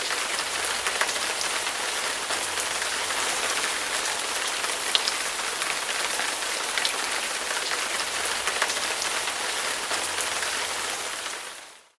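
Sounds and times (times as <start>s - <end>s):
rain pattering: 0.0s - 11.9s.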